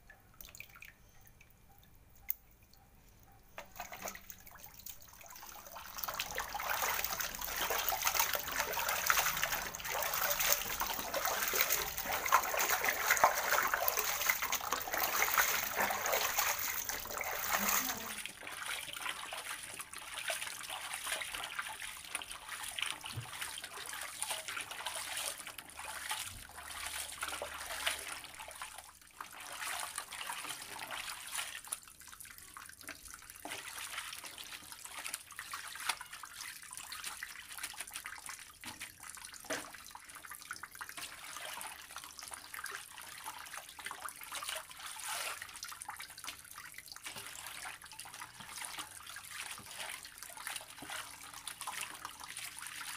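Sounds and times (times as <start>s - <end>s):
water splashing in a basin: 0.0s - 2.9s, 3.5s - 52.9s.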